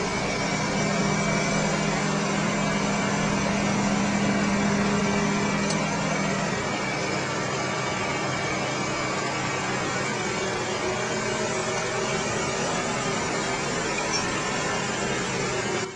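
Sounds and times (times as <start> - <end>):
heavy equipment engines running: 0.0 - 15.9.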